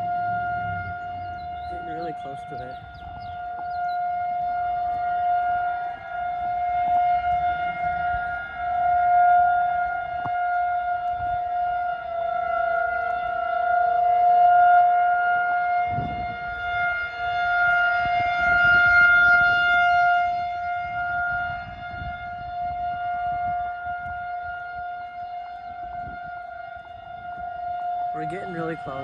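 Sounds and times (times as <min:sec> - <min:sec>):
warning siren steady tone: 0:00.0 - 0:29.0.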